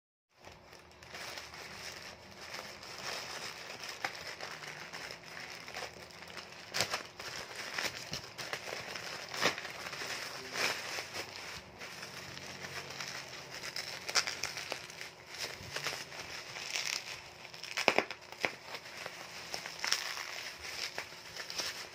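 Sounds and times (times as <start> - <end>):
plastic bag and bubble wrap crinkling: 0.4 - 21.9.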